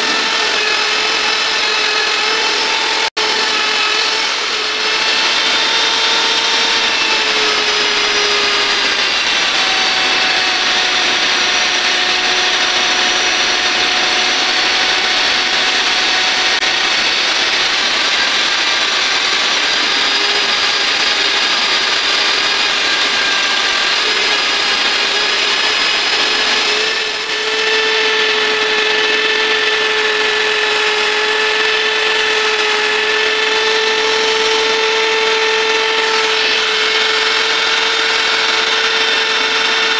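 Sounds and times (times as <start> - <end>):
die grinder whining on steel: 0.0 - 39.9.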